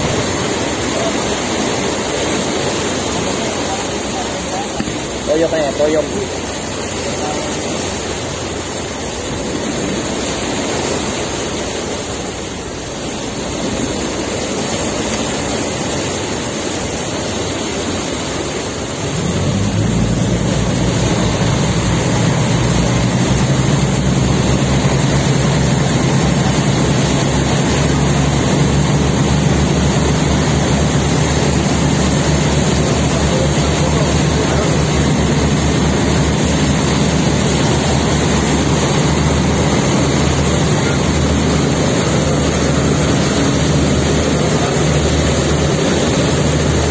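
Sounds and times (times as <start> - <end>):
low engine hum: 0.0 - 46.9
sea water rushing and churning: 0.0 - 46.9
ship diesel engines droning: 0.0 - 46.9.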